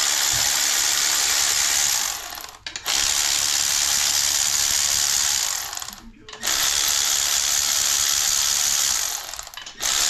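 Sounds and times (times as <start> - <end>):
powered ratchet rattling: 0.0 - 10.0.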